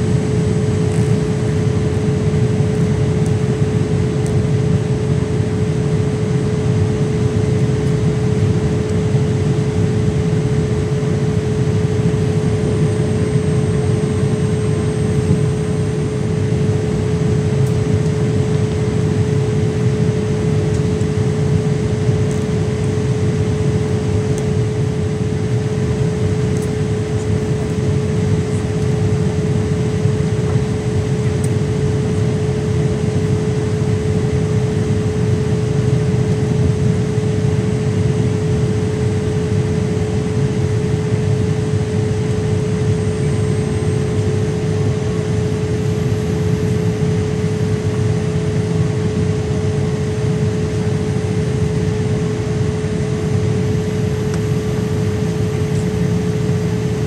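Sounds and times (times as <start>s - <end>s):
jet engines and airflow rushing: 0.0s - 57.0s
steady hum: 0.0s - 57.0s.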